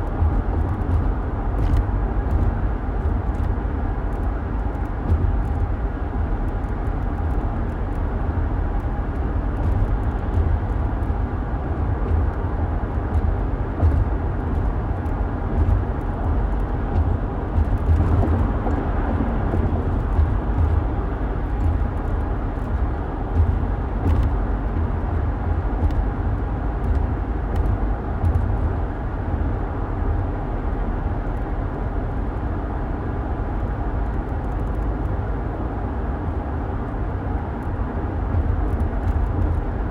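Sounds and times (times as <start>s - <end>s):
car engine and tyres rumbling: 0.0s - 39.9s
road and wind noise: 0.0s - 39.9s.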